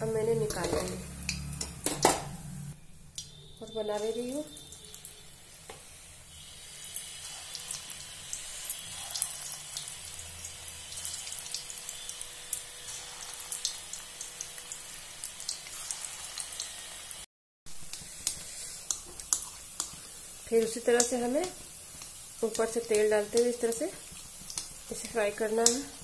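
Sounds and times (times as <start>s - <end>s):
balls deep-frying in oil: 0.0s - 26.0s.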